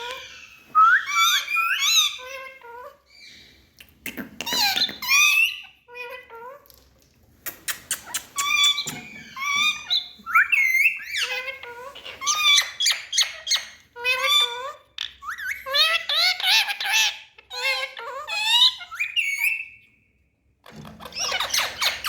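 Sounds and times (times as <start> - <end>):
parrots chattering: 0.0 - 6.6, 7.4 - 19.8, 20.7 - 22.0.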